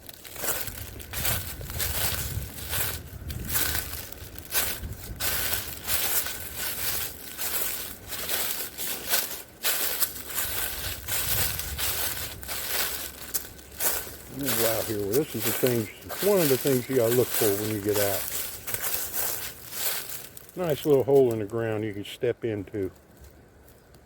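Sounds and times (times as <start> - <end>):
footsteps crunching through dry leaves: 0.0 - 22.0.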